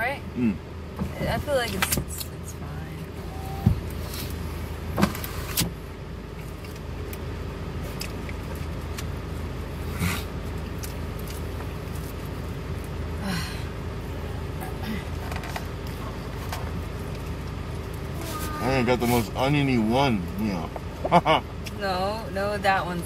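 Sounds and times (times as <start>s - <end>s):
low hum inside a car: 0.0s - 23.0s.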